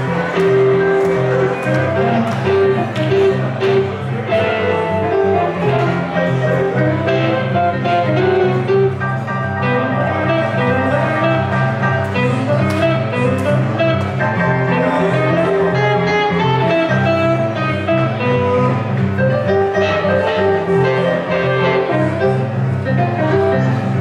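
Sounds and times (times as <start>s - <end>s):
bass line: 0.0s - 24.0s
electric guitar playing: 0.0s - 24.0s
keyboard: 0.0s - 24.0s.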